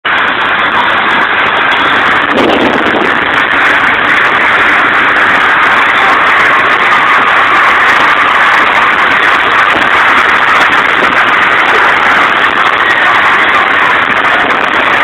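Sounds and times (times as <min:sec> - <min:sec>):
cars racing at speed: 0:00.1 - 0:15.0.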